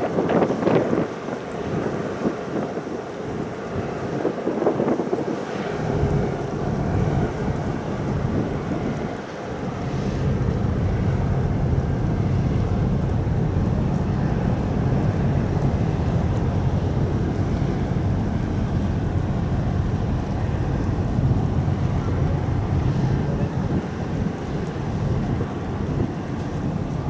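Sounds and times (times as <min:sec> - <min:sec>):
wind noise on microphone: 0:00.0 - 0:27.0
ferry engines rumbling: 0:00.1 - 0:27.0.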